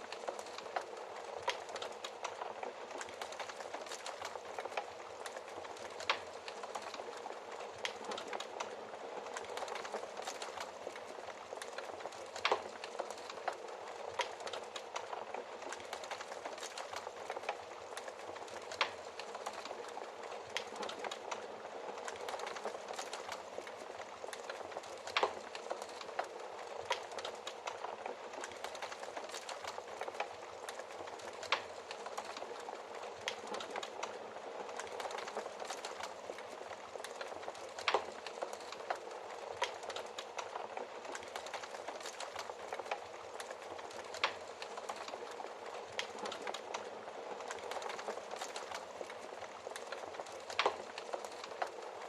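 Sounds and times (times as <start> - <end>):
fire popping: 0.0 - 52.0
wood fire crackling: 0.0 - 52.0.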